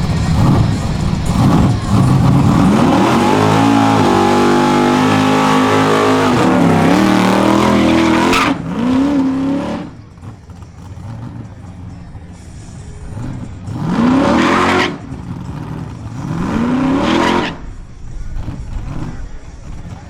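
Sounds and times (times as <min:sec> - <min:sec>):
car engine revving: 0:00.0 - 0:20.0
spinning tyres hissing: 0:00.0 - 0:20.0.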